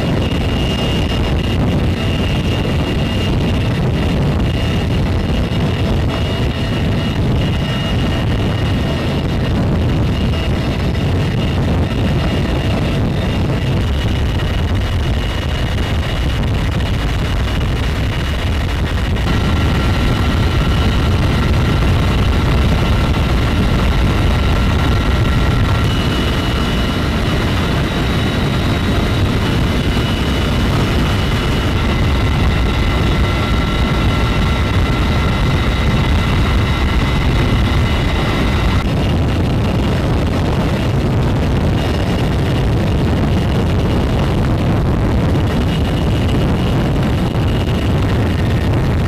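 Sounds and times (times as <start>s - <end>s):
helicopter rotor and wind noise: 0.0s - 49.0s
high turbine whine: 0.0s - 49.0s.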